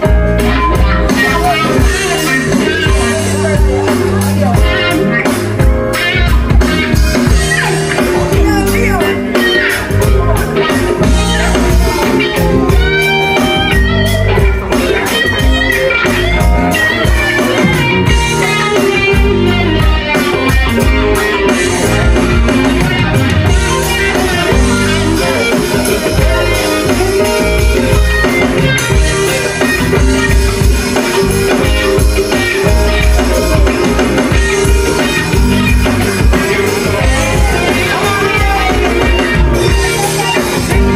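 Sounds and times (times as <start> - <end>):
electric guitar: 0.0 - 40.9
live band playing dance music: 0.0 - 40.9.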